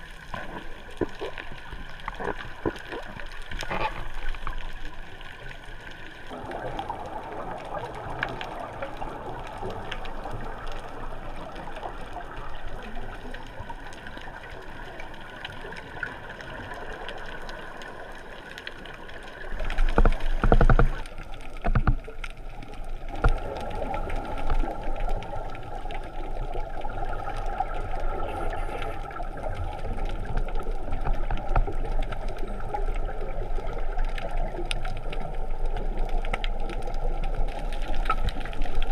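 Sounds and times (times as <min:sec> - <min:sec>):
gurgling exhaled bubbles: 0:00.0 - 0:38.9
muffled underwater noise: 0:00.0 - 0:38.9.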